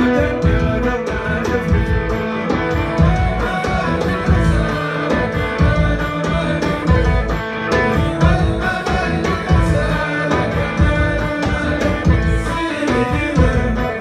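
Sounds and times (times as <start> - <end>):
bass guitar line: 0.0 - 14.0
electric guitar lines: 0.0 - 14.0
hand drum beat: 0.0 - 14.0.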